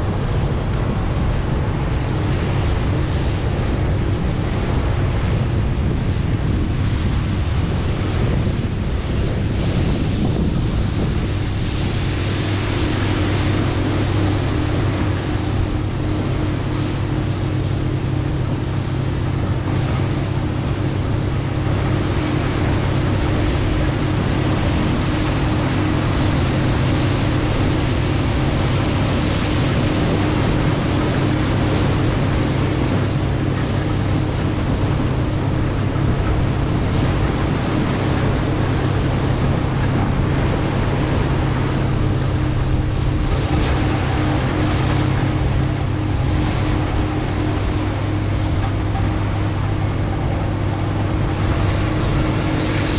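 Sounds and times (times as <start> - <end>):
rushing wind-like noise: 0.0 - 52.9.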